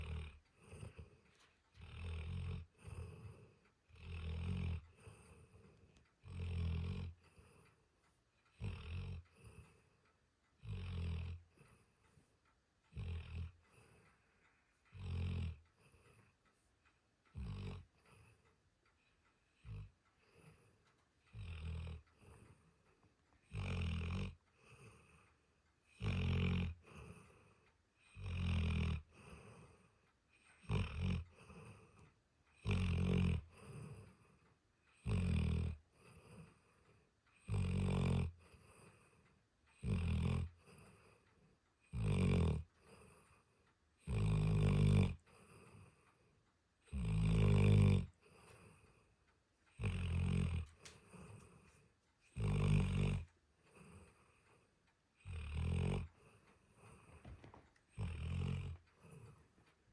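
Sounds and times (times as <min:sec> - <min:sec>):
dog snoring: 0:00.0 - 0:07.8, 0:08.5 - 0:10.0, 0:10.6 - 0:12.3, 0:12.9 - 0:16.3, 0:17.3 - 0:18.4, 0:19.4 - 0:25.2, 0:25.8 - 0:49.1, 0:49.7 - 0:59.9
dog breathing softly: 0:00.0 - 0:59.9.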